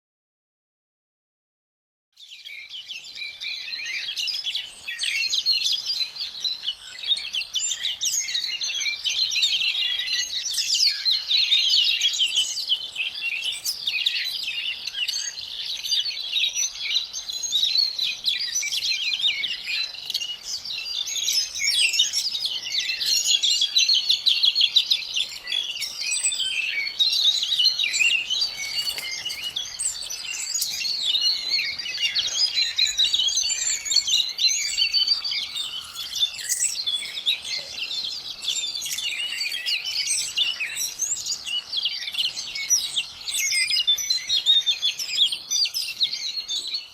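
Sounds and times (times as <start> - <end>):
songbirds chirping and trilling: 2.2 - 46.9.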